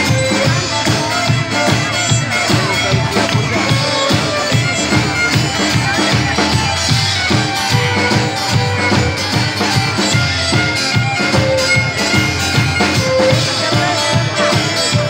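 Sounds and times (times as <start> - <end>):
drum kit beat: 0.0 - 15.0
fiddle melody: 0.0 - 15.0.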